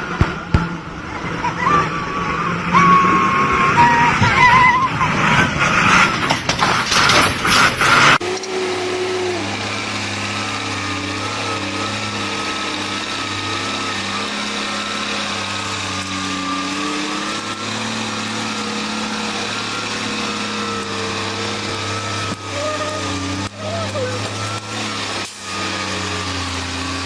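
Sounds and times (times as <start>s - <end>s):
heavy truck engine running: 0.0s - 27.0s.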